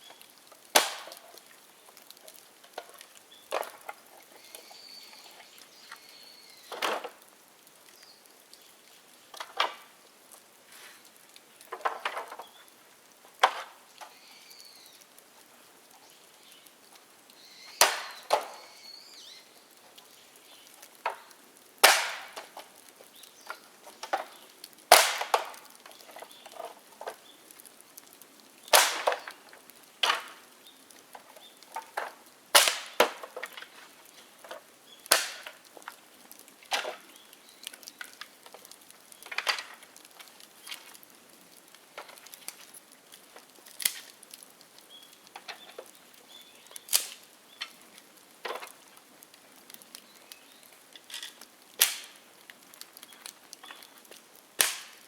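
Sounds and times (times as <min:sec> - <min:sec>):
bamboo bursting with sharp cracks: 0:00.0 - 0:06.0, 0:06.6 - 0:08.0, 0:09.1 - 0:10.1, 0:11.0 - 0:14.2, 0:17.4 - 0:55.0
fire crackling: 0:00.0 - 0:55.0.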